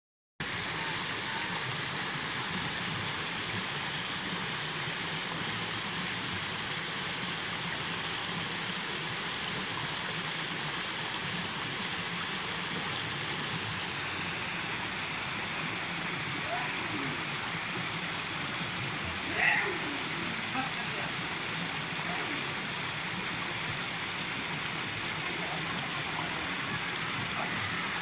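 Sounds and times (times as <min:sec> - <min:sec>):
water rushing: 0:00.4 - 0:28.0.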